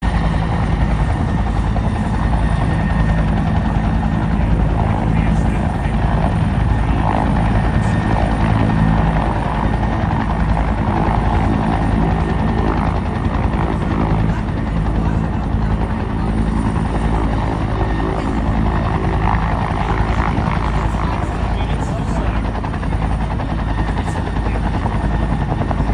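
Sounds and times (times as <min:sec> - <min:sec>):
helicopter rotor beating: 0:00.0 - 0:25.9
turbine noise: 0:00.0 - 0:25.9.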